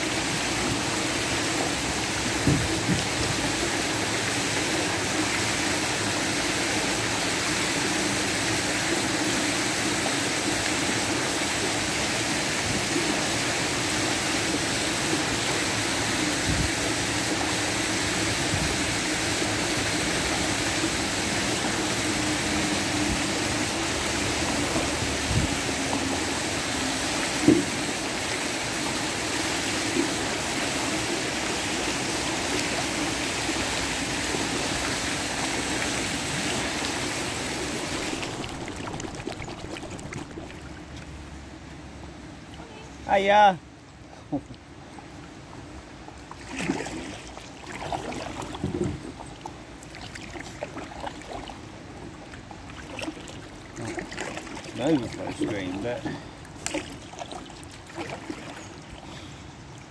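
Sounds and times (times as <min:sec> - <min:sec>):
flowing water rushing: 0:00.0 - 0:43.8, 0:44.6 - 0:59.9.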